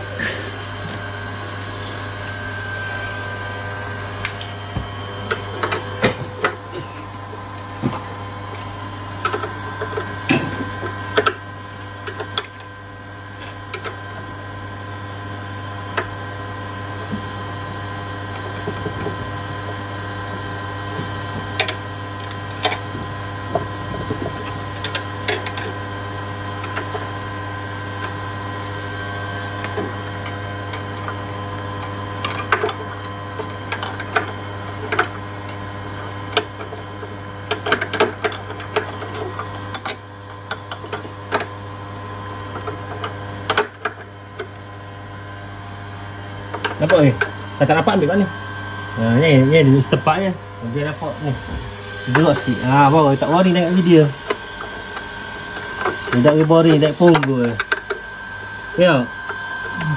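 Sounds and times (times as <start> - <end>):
mechanical hum with held tones: 0.0 - 59.9.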